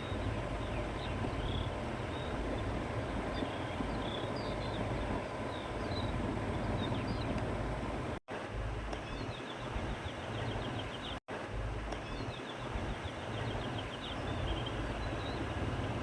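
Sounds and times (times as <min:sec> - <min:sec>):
small birds chirping: 0:00.0 - 0:07.9, 0:08.9 - 0:11.2, 0:11.9 - 0:16.0.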